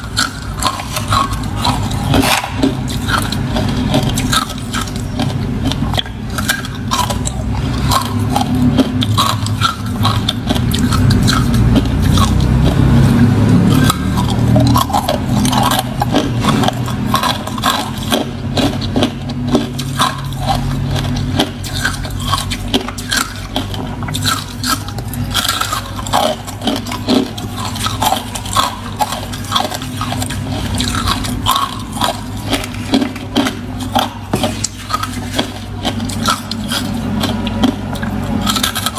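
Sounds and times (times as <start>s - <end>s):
ice crunching while chewing: 0.0s - 38.9s.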